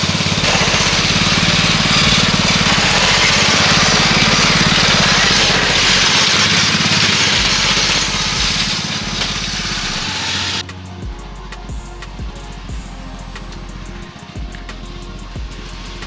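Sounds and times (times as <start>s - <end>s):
riding lawn mower engine: 0.0s - 16.0s.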